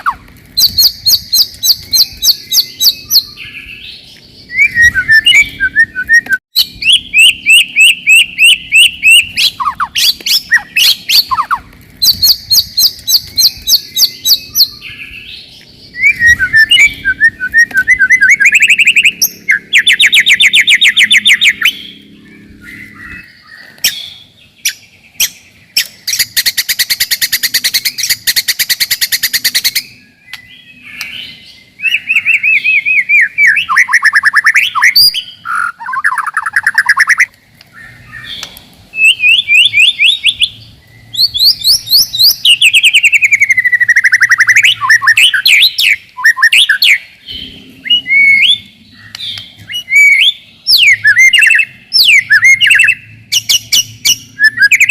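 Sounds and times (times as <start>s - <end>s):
bird song with whistles and trills: 0.0s - 54.9s.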